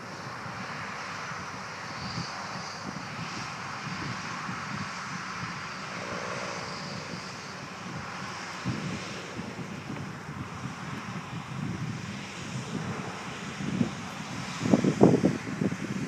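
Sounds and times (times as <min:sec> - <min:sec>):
distant combine harvester drone: 0:00.0 - 0:16.0
wind buffeting microphone: 0:00.0 - 0:16.0.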